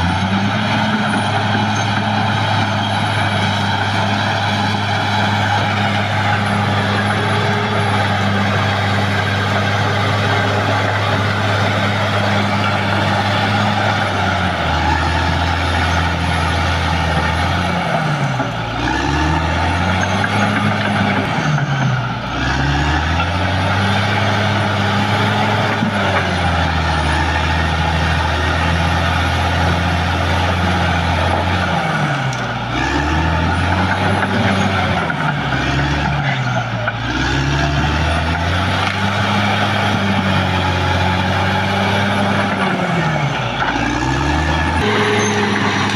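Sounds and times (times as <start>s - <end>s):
bulldozer diesel engine working: 0.0s - 45.9s.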